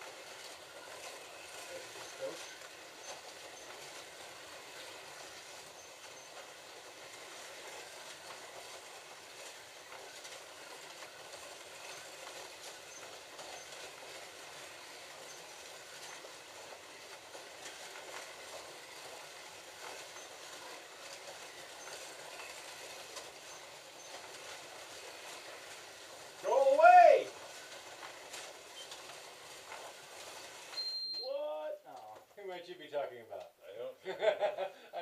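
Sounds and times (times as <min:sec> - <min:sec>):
slot cars rattling along track: 0:00.0 - 0:30.8
whir of small electric motors: 0:00.0 - 0:31.0.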